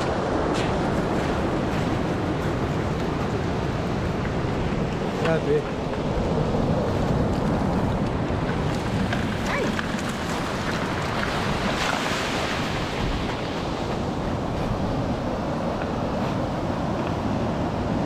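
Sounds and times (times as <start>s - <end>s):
surf washing over beach: 0.0s - 18.0s
wind rumbling on microphone: 0.0s - 18.0s.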